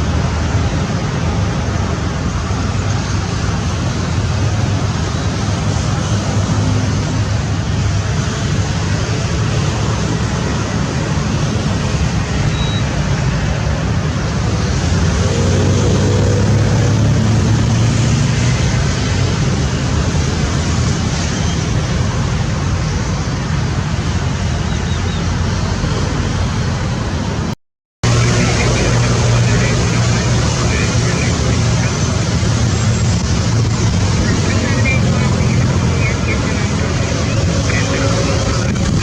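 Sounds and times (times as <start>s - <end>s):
engine rumbling: 0.0s - 39.0s.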